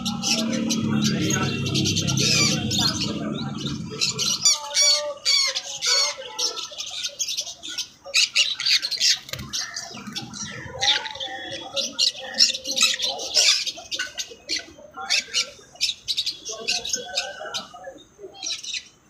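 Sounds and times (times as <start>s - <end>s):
birds chattering and squawking: 0.0s - 19.0s.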